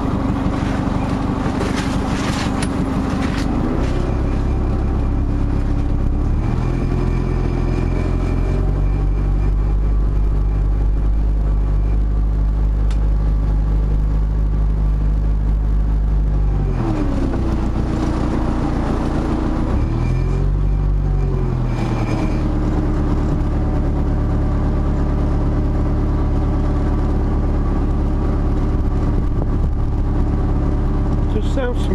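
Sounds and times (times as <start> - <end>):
boat diesel engine running: 0.0 - 31.9.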